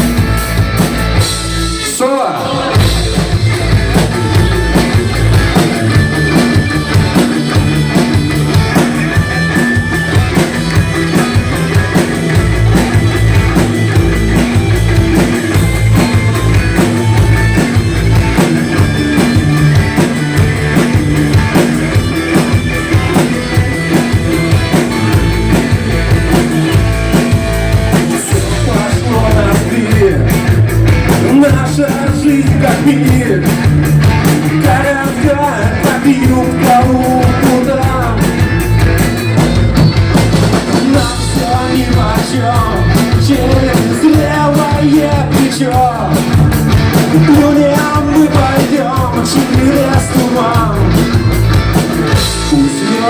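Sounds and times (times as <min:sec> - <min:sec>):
bass guitar: 0:00.0 - 0:53.0
driving drum beat: 0:00.0 - 0:53.0
rock band instrumental solo: 0:00.0 - 0:53.0.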